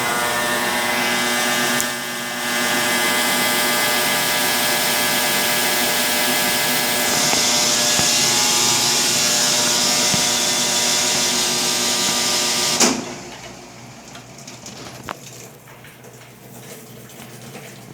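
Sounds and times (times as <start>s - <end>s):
washing machine spinning: 0.0s - 17.9s.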